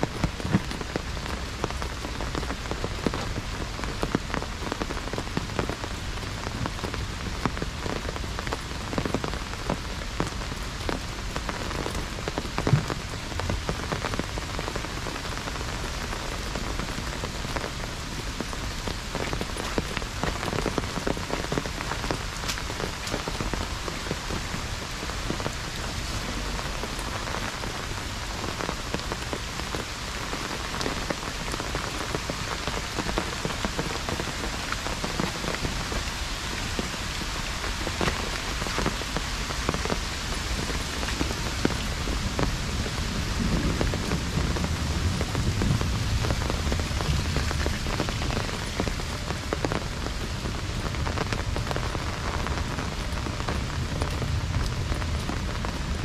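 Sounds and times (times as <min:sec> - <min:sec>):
heavy rain on an umbrella: 0:00.0 - 0:56.0.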